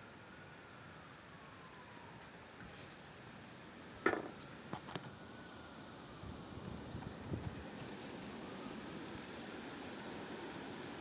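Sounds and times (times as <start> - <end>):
faint wind hiss: 0.0 - 11.0.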